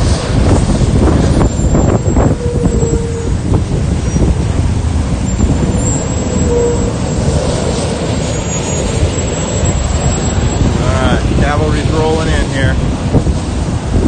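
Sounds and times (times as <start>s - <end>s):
heavy vehicle engine rumble: 0.0s - 14.0s
wind buffeting microphone: 0.0s - 14.0s.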